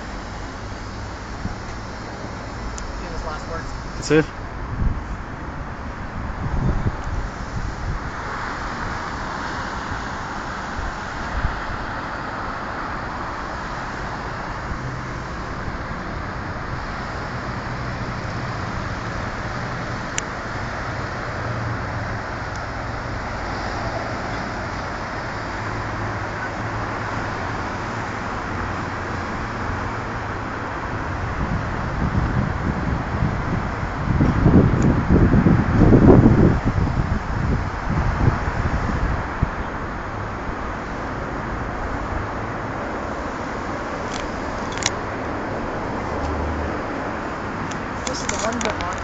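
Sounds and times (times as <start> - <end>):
distant road traffic hum: 0.0 - 49.0.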